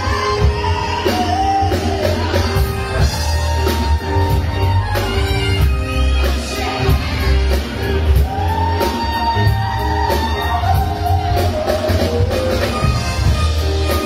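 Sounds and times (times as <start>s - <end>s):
live band playing soul-pop: 0.0s - 14.0s.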